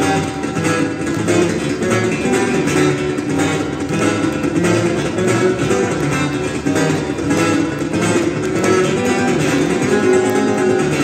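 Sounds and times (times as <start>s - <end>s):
acoustic guitar strumming and plucking: 0.0s - 11.0s.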